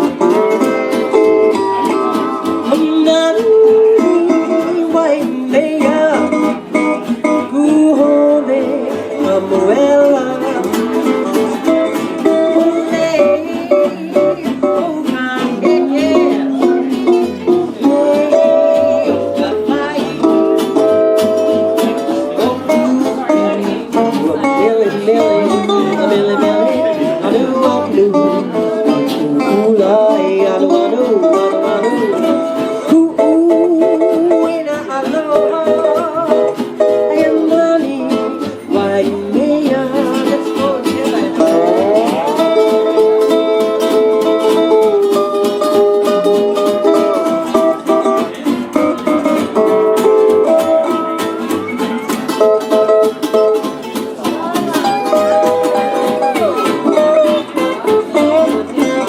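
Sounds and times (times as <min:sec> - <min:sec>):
acoustic band playing: 0:00.0 - 0:59.0
person singing: 0:00.0 - 0:59.0.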